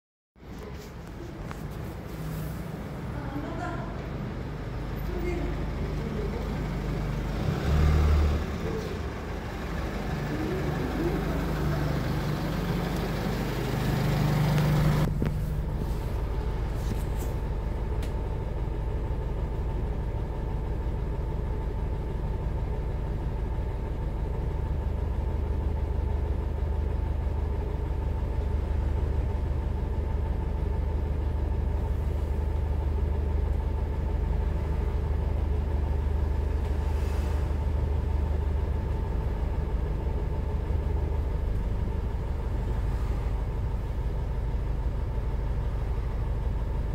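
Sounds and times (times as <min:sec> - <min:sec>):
bus engine droning: 0:00.4 - 0:46.9.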